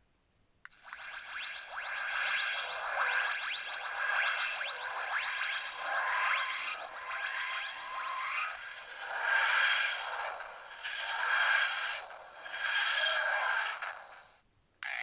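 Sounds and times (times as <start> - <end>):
electronic sound effect from tiny speaker: 0.7 - 13.8.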